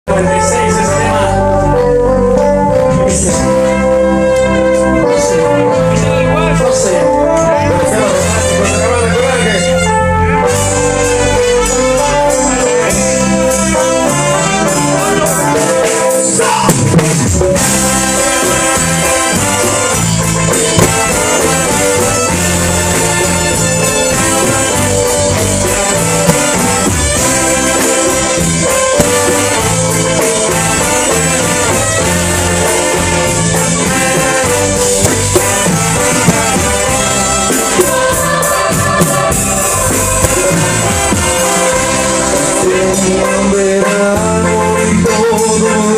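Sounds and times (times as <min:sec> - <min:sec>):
brass band playing: 0:00.0 - 0:45.9.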